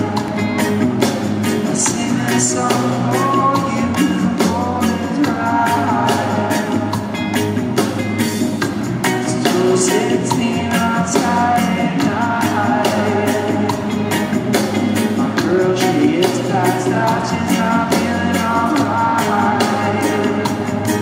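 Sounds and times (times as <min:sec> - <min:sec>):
man singing: 0:00.0 - 0:00.6, 0:01.6 - 0:07.1, 0:09.1 - 0:14.2, 0:15.0 - 0:21.0
live reggae band playing: 0:00.0 - 0:21.0.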